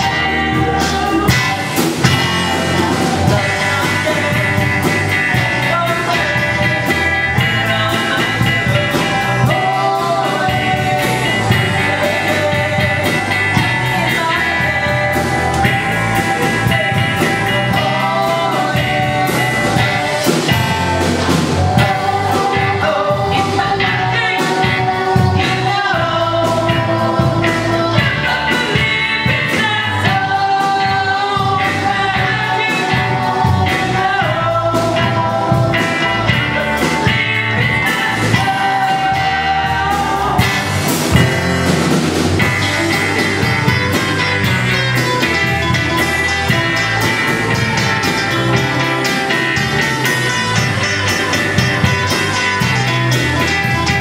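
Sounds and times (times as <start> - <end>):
live rock band playing: 0.0 - 54.0
man singing lead: 0.0 - 54.0.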